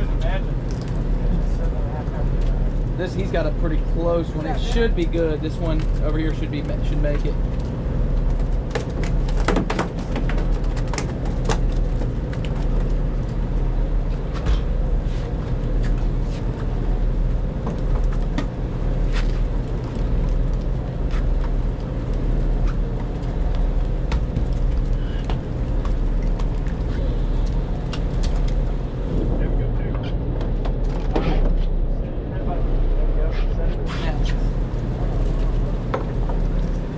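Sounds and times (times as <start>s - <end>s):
boat engine droning: 0.0s - 36.9s.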